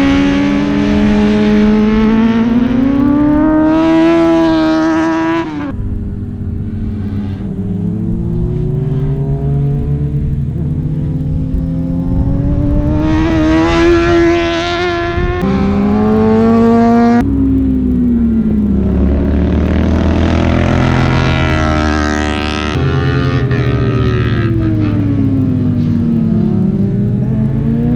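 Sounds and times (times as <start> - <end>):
motorcycle engines revving hard: 0.0 - 27.9.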